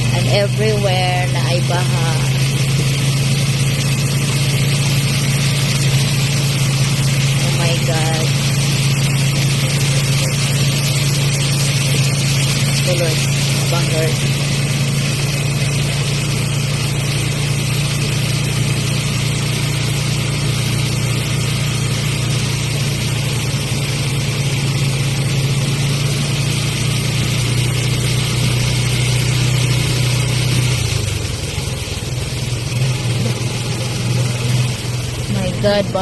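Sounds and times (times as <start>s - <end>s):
vehicle engine droning: 0.0s - 36.0s.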